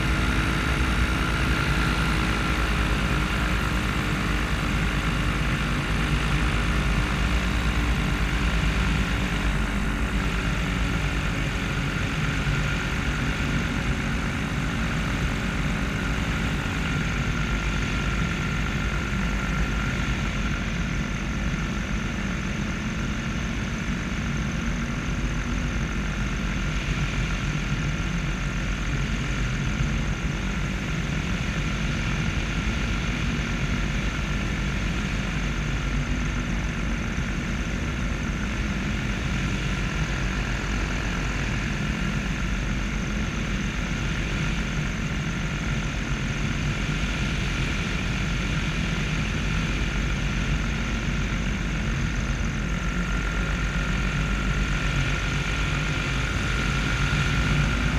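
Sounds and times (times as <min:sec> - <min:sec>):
paramotor engine and propeller: 0:00.0 - 0:57.9.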